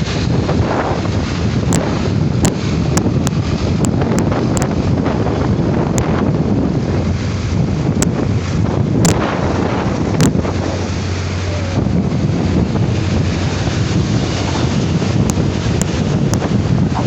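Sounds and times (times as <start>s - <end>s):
low hum: 0.0s - 17.0s
wind buffeting microphone: 0.0s - 17.0s.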